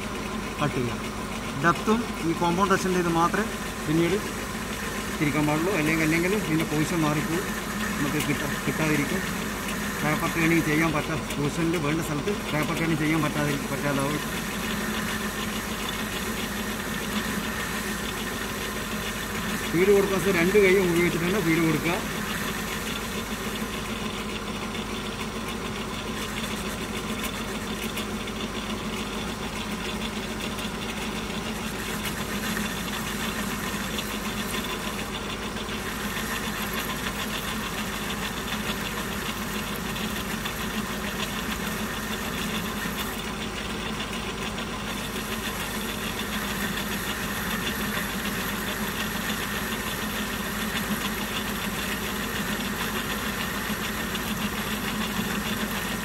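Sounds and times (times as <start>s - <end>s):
lathe humming: 0.0s - 56.0s.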